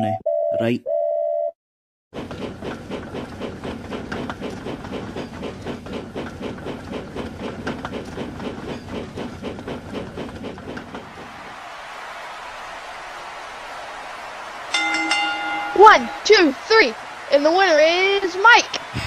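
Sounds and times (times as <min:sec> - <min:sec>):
steam train chuffing: 0:02.2 - 0:19.0.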